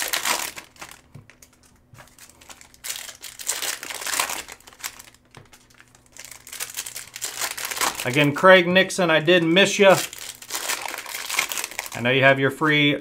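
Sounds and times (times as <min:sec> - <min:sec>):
cards rustling: 0:00.0 - 0:12.0
foil wrapper crinkling: 0:00.0 - 0:12.8.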